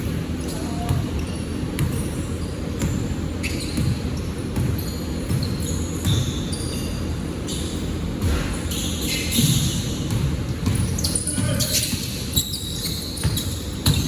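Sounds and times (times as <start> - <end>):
basketball bouncing on court: 0.0 - 14.0
sneakers squeaking: 0.0 - 14.0.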